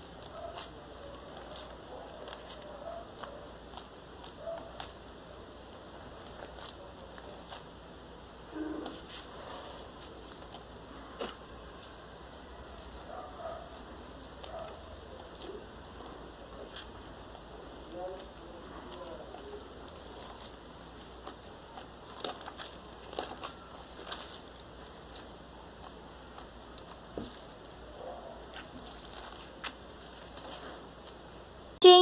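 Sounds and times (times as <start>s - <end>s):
foam slime crackling and popping: 0.0s - 27.8s.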